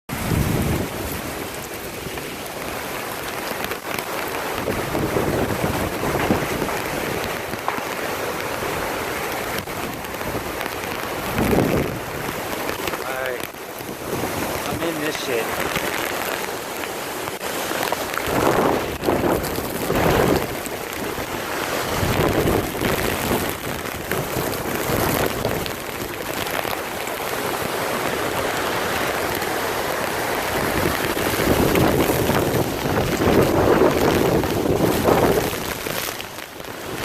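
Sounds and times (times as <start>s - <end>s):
strong wind rushing: 0.1s - 2.2s, 4.5s - 7.6s, 9.6s - 16.2s, 17.4s - 26.4s, 27.8s - 37.0s
rain: 0.1s - 37.0s.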